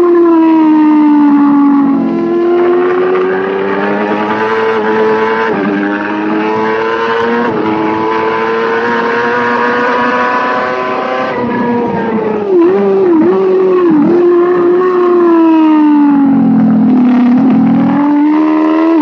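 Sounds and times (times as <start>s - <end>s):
racing motorcycle engine accelerating: 0.0s - 19.0s.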